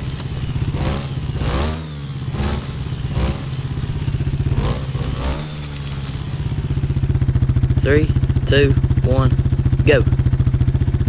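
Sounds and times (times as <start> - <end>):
atv engine revving and idling: 0.0 - 11.0.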